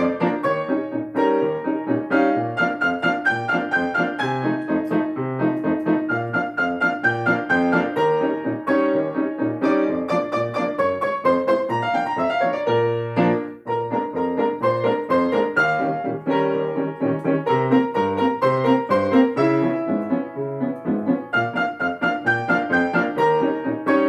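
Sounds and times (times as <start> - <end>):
fast piano duet: 0.0 - 24.0.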